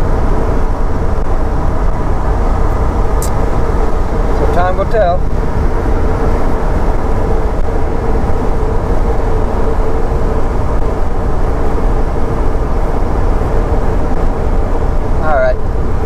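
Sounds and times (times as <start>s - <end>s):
road and engine rumble: 0.0s - 16.0s
steady hum: 0.0s - 16.0s.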